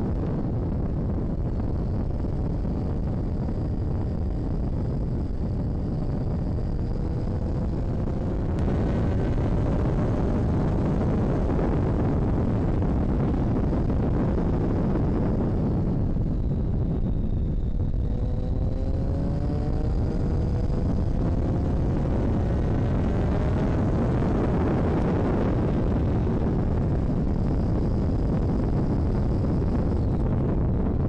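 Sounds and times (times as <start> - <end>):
motorcycle engine accelerating: 0.0 - 31.0
wind rush on microphone: 0.0 - 31.0.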